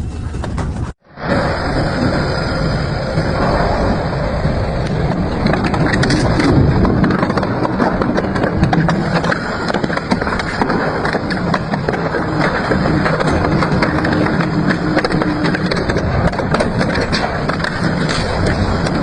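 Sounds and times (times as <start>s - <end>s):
industrial shredder grinding: 1.2s - 19.0s
scrap cracking and crunching: 3.1s - 19.0s.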